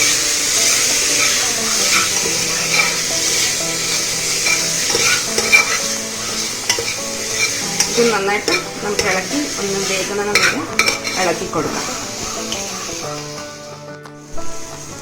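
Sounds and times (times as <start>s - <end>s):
utensil scraping and tapping pan: 0.0s - 14.1s
tomatoes sizzling in hot oil: 0.0s - 15.0s.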